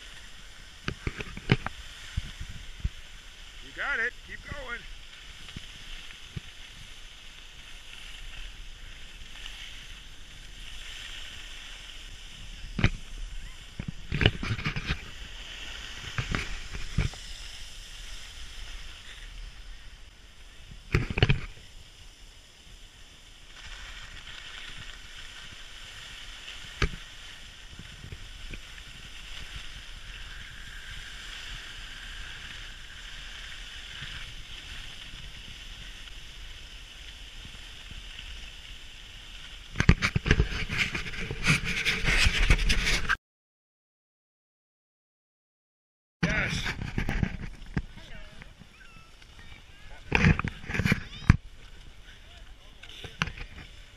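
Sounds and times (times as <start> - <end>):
skis sliding over snow: 0.0 - 43.2, 46.2 - 53.9.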